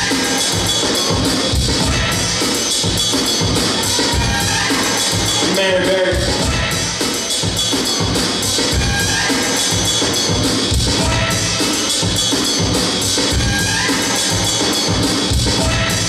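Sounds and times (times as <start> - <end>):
dance music over speakers: 0.0 - 16.0.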